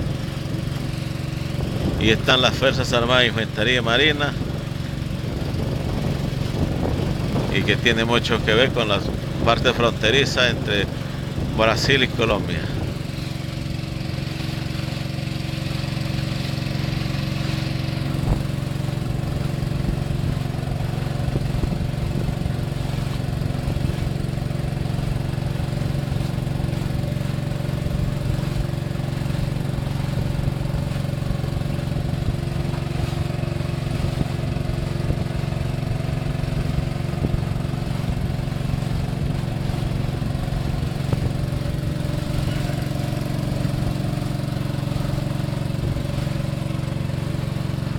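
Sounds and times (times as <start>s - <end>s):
boat motor running: 0.0s - 47.9s
hiss of wind and water: 0.0s - 47.9s.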